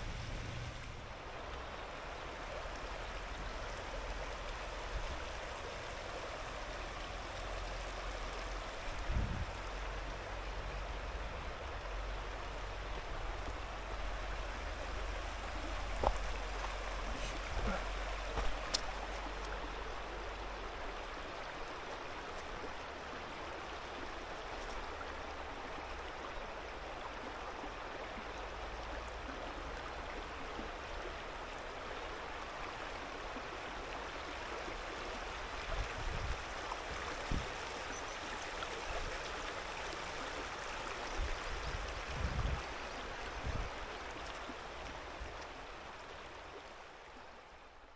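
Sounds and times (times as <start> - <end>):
river flowing over stones: 0.0 - 47.9.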